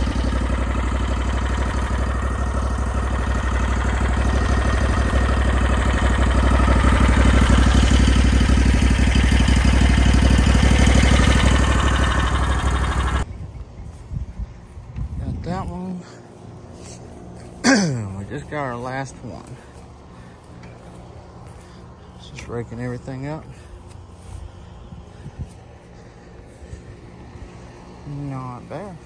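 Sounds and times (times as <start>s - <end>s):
stump grinder engine running: 0.0s - 13.3s, 15.3s - 29.0s.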